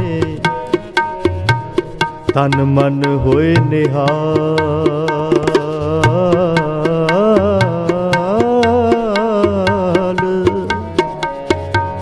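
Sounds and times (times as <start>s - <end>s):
tabla strokes: 0.0s - 12.0s.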